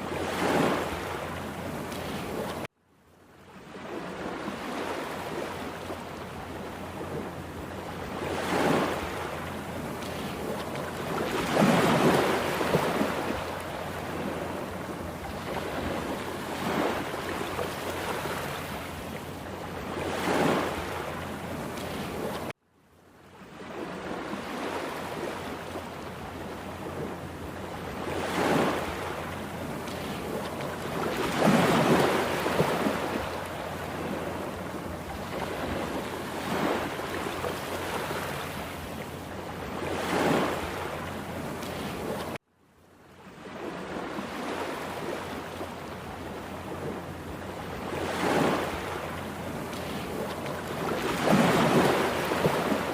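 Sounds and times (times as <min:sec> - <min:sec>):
waves breaking: 0:00.0 - 0:02.7, 0:03.4 - 0:22.6, 0:23.3 - 0:42.4, 0:43.2 - 0:52.9
steady wash of water: 0:03.6 - 0:22.6, 0:23.6 - 0:42.4, 0:43.7 - 0:52.9.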